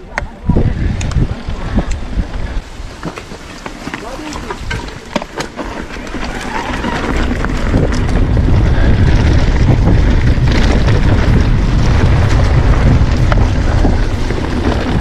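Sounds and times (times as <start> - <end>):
bike rattles and clicks: 0.0 - 15.0
bike tyres rumbling on dirt: 0.0 - 15.0
wind buffeting microphone: 0.0 - 15.0.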